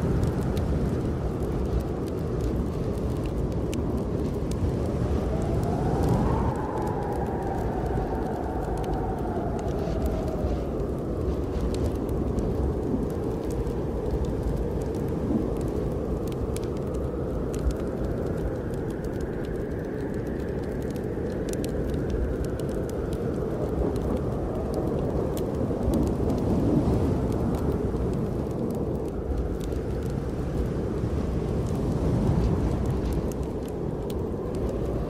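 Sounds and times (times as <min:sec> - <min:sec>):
fireplace fire crackling: 0:00.0 - 0:35.0
wind howling: 0:00.0 - 0:35.0.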